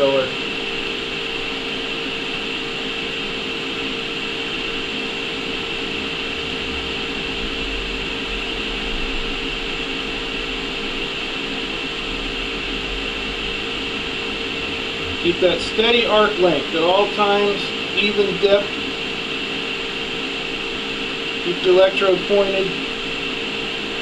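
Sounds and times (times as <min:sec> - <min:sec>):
welding arc hissing and humming: 0:00.0 - 0:24.0.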